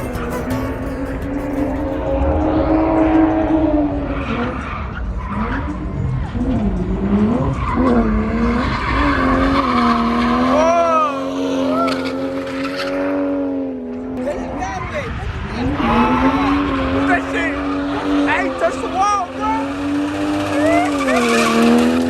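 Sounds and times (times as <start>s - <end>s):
car tires squealing: 3.0s - 13.5s, 14.3s - 22.0s.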